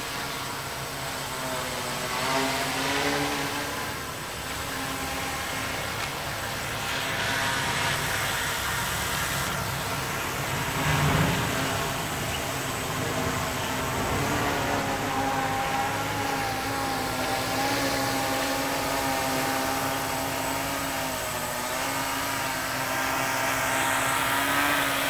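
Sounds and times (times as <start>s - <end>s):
drone propellers hovering: 0.0s - 25.0s.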